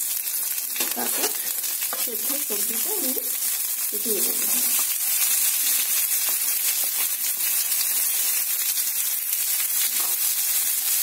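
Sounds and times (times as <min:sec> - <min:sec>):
hot oil sizzling in frying pan: 0:00.0 - 0:11.0.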